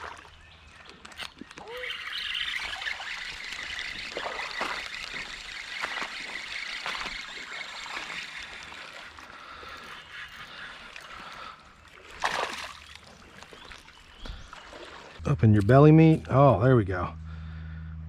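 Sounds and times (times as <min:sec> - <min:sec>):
small water splashes: 0:00.0 - 0:15.2
creek water trickling: 0:00.0 - 0:15.8.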